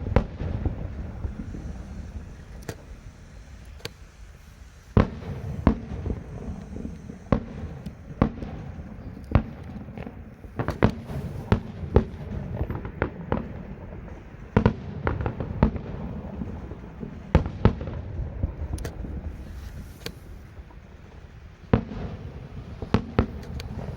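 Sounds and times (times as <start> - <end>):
fireworks bangs: 0.0 - 23.9.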